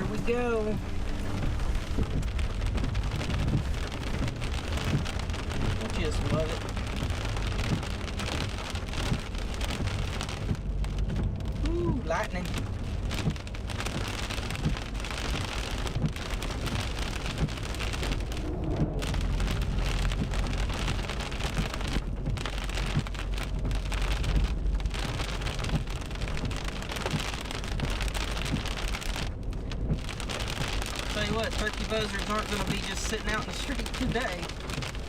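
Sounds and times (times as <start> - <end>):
heavy rain on a car: 0.0 - 35.0
thunder rumble: 0.0 - 35.0.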